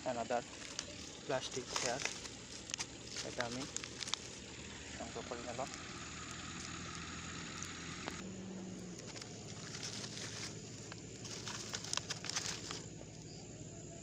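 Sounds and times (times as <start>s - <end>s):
faint low hum: 0.0s - 14.0s
plastic litter crackling: 0.3s - 13.1s.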